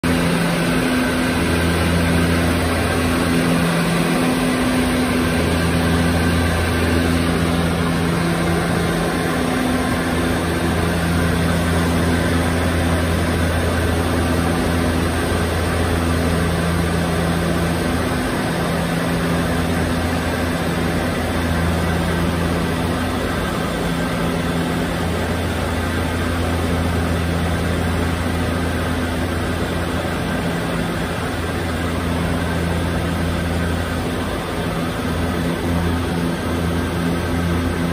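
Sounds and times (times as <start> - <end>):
turboprop engines droning: 0.0 - 37.9.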